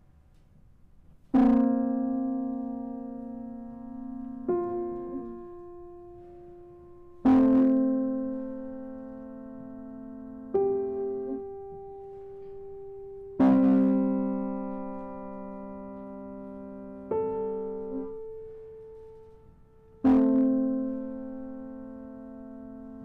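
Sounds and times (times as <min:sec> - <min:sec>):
piano chords ringing: 0:00.0 - 0:23.0.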